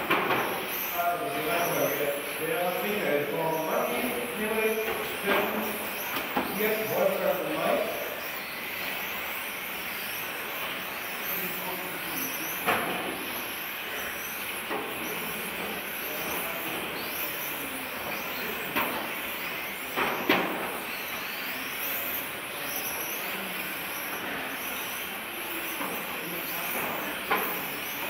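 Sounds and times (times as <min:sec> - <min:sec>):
model car motors whirring: 0:00.0 - 0:28.0.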